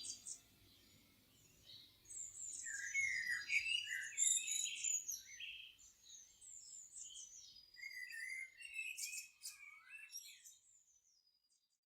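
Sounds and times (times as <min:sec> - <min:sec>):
songbirds chirping and warbling: 0:00.0 - 0:11.8.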